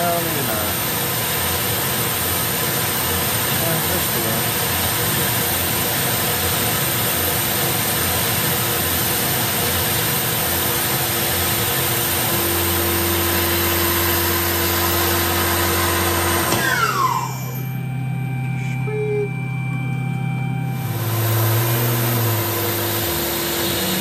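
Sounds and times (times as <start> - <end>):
milling machine cutting metal: 0.0 - 18.9, 19.8 - 24.0
falling spindle whine: 0.0 - 24.0
steady hum: 0.0 - 24.0.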